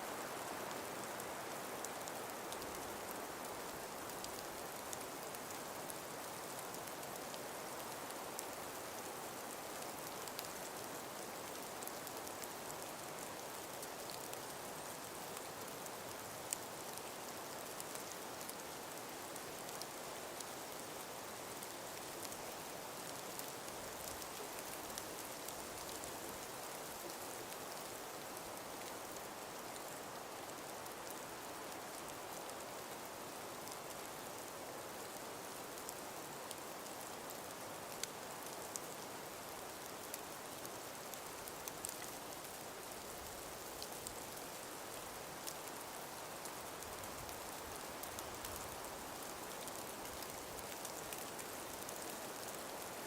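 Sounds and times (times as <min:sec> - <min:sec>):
soft breeze hiss: 0:00.0 - 0:53.0
light ticks and patters: 0:00.1 - 0:53.0.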